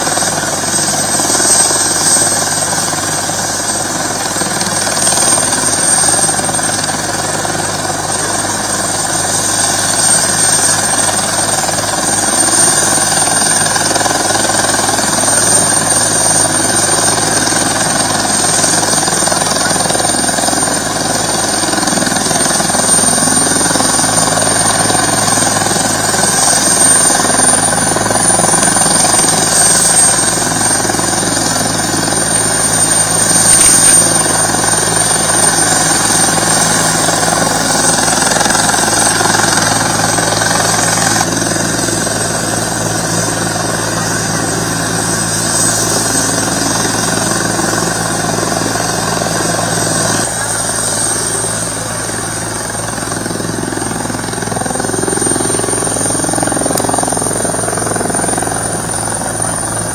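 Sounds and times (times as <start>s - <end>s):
helicopter engine noise: 0.0s - 59.9s
helicopter turbine whine: 0.0s - 59.9s.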